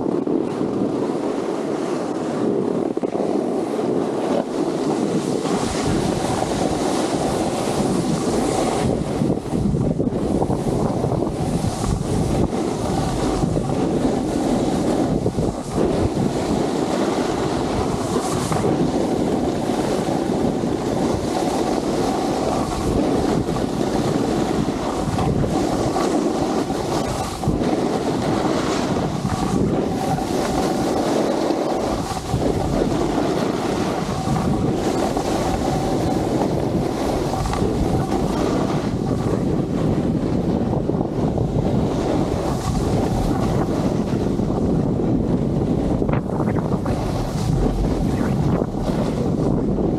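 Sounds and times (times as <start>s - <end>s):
skis carving over snow: 0.0s - 49.9s
wind buffeting microphone: 0.0s - 49.9s.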